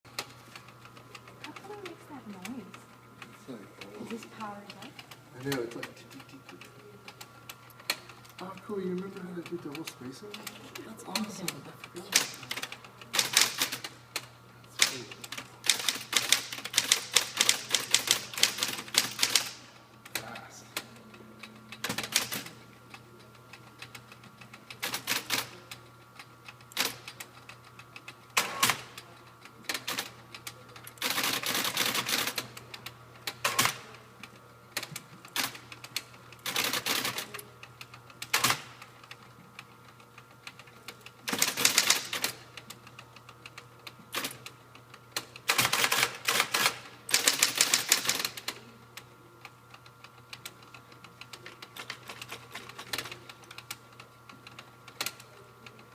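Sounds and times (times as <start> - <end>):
typewriter motor humming: 0.1 - 55.9.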